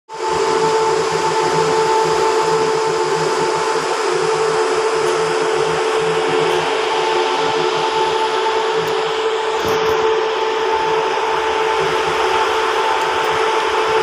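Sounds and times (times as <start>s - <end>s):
mechanical drone with hum: 0.1s - 14.0s.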